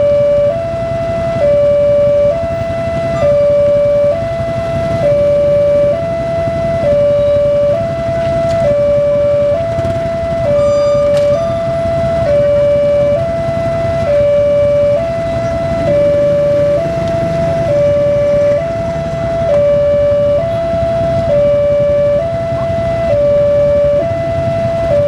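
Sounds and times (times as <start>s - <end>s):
two-tone level crossing alarm: 0.0s - 25.0s.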